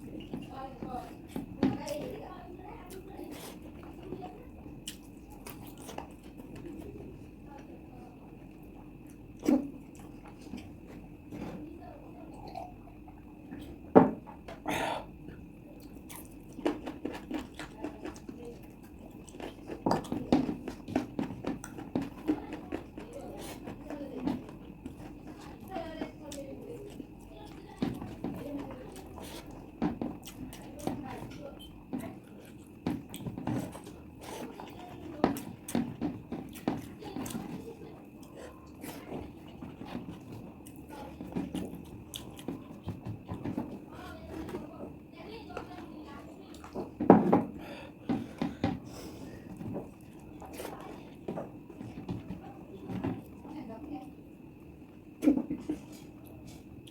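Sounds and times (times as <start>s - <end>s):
chewing and smacking mouth sounds: 0.0s - 11.6s, 15.3s - 47.0s, 48.0s - 52.4s, 54.6s - 56.9s.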